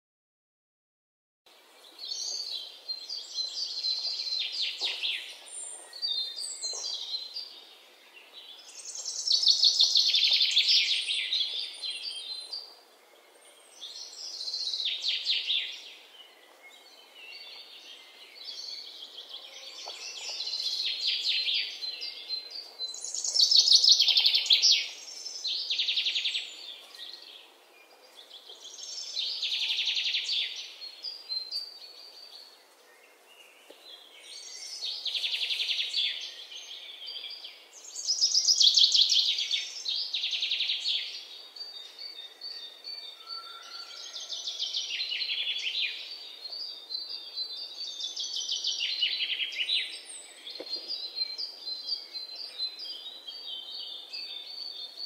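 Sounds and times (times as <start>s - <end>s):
birds singing chirping trills: 1.5s - 55.0s.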